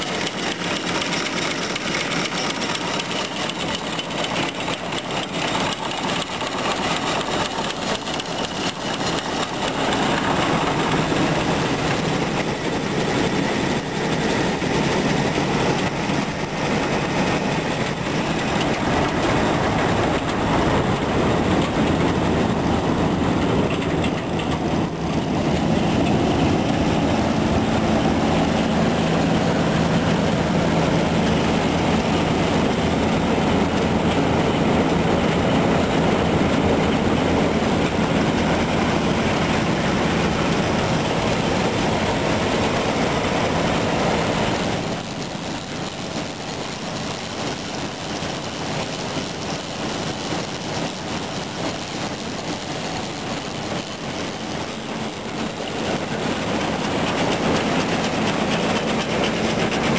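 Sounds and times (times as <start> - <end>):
clatter of belts and pulleys: 0.0 - 59.9.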